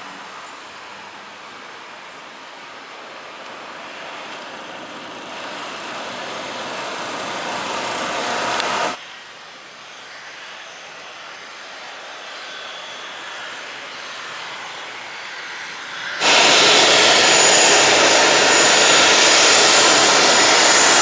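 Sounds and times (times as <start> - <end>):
helicopter engines and rotor: 2.9 - 21.0.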